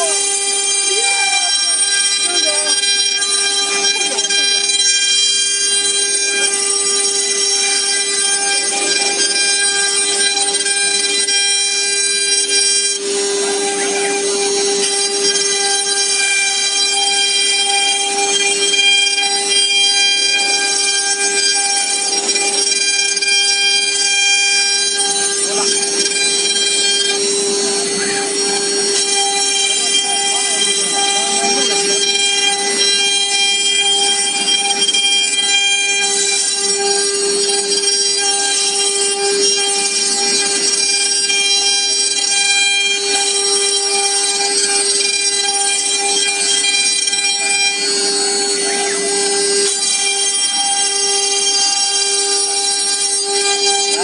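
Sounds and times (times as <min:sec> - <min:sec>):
router spindle high-pitched whine: 0:00.0 - 0:54.0.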